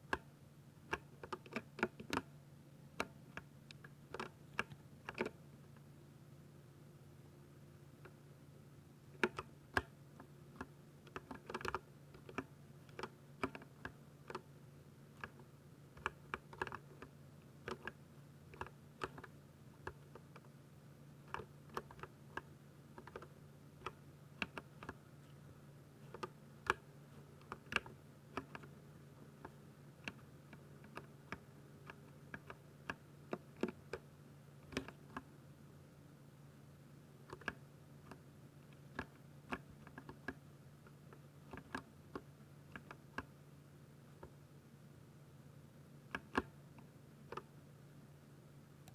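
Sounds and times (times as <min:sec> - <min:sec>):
faint low hum: 0:00.0 - 0:48.9.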